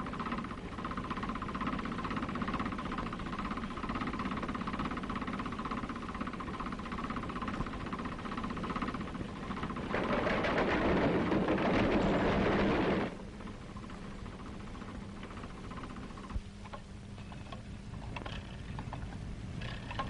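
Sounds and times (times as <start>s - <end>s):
mechanical running pulsing: 0.0s - 20.0s.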